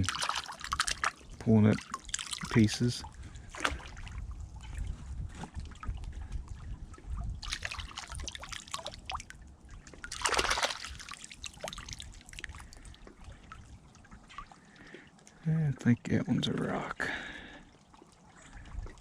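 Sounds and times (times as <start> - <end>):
river water splashing and trickling: 0.0 - 19.0.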